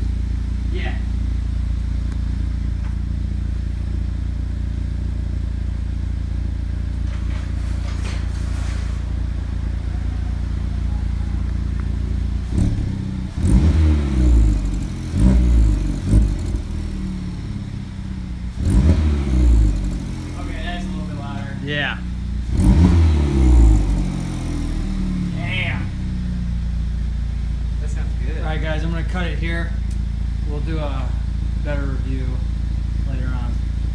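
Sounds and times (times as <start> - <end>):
car engine idling: 0.0 - 33.9
engine revs: 0.0 - 33.9.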